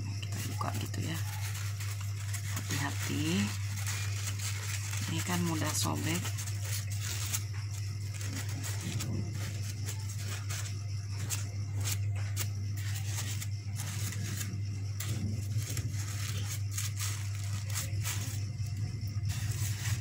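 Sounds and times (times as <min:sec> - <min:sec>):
crepe paper rustling: 0:00.1 - 0:20.0.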